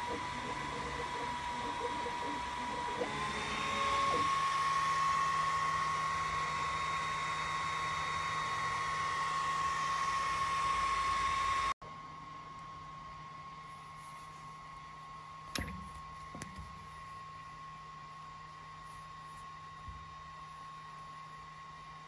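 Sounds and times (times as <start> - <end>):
faint hum: 0.0 - 22.0
high steady whine: 0.0 - 22.0.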